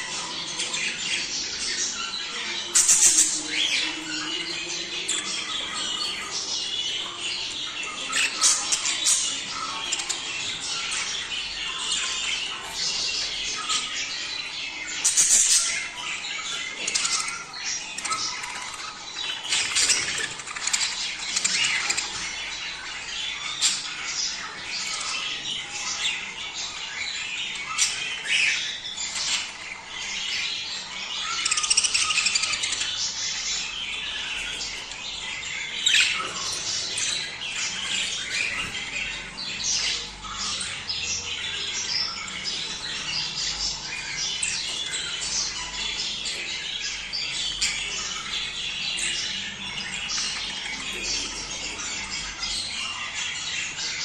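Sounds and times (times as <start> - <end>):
budgerigars chattering and warbling: 0.0 - 54.0.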